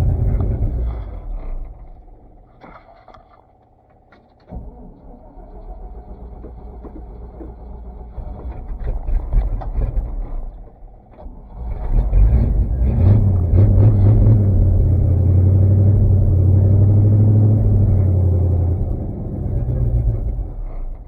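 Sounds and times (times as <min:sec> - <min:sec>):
truck engine starting and rumbling: 0:00.0 - 0:02.5, 0:04.1 - 0:21.0.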